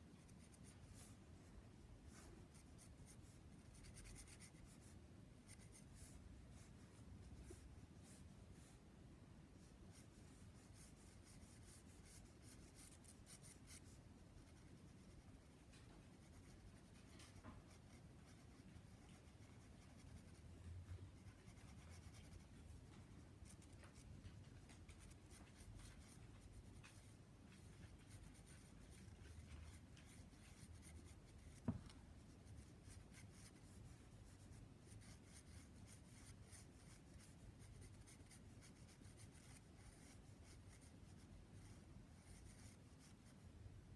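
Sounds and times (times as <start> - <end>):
pencil scratching on paper: 0.2 - 1.2, 2.1 - 8.3, 9.9 - 15.5, 16.1 - 20.5, 21.1 - 22.8, 23.4 - 43.4.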